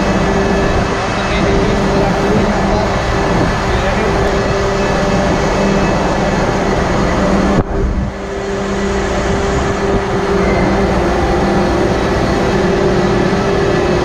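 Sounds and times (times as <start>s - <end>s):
engine room machinery noise: 0.0s - 14.0s
higher hum: 0.0s - 14.0s
low hum: 0.0s - 14.0s.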